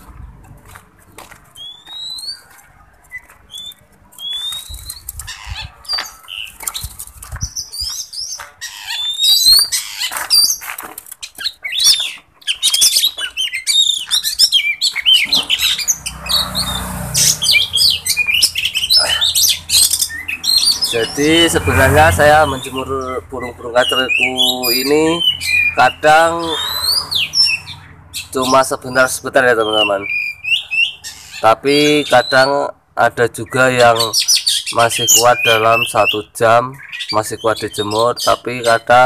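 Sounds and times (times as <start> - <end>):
songbirds whistling and chirping: 0.0 - 32.7, 33.3 - 39.0.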